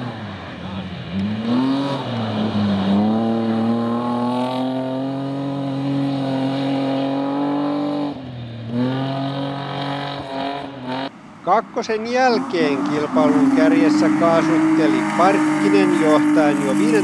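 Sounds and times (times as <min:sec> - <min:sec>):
rally car engine at high revs: 0:00.0 - 0:11.1, 0:11.7 - 0:17.0.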